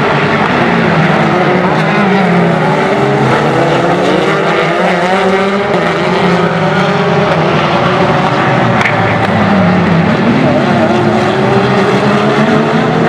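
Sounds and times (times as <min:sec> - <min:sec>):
racing car engines: 0:00.0 - 0:13.0.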